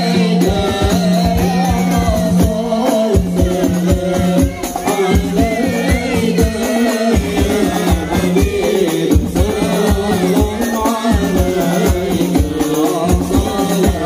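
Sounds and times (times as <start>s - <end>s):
frame drums beating: 0.0s - 14.0s
men chanting through loudspeakers: 0.0s - 14.0s.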